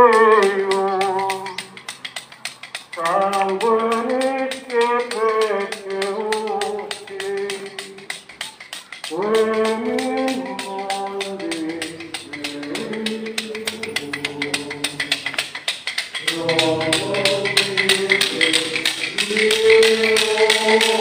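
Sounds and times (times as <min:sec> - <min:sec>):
voices singing a hymn: 0:00.0 - 0:01.9, 0:02.9 - 0:08.2, 0:09.1 - 0:21.0
fast even clicking: 0:00.0 - 0:21.0.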